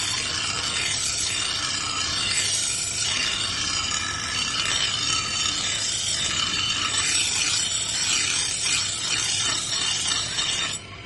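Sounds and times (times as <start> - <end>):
abrasive scraping of steel: 0.0 - 11.0.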